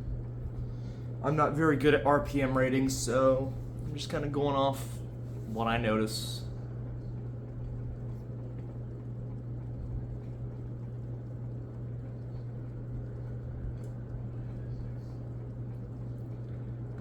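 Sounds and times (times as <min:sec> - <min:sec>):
ceiling fan humming: 0:00.0 - 0:17.0.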